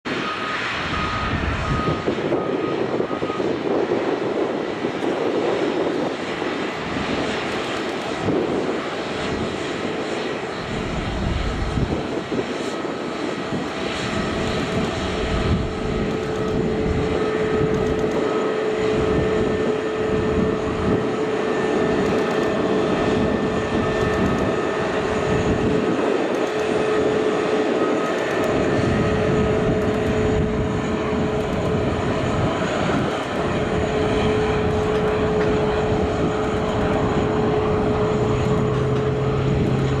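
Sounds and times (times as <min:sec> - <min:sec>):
jet engines whining at taxi power: 0:00.0 - 0:40.0.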